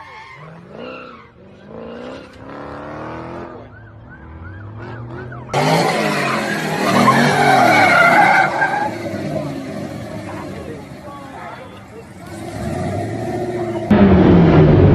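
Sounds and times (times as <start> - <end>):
engine and tyre noise rush: 0.0 - 14.9
car engine revving: 0.4 - 14.9.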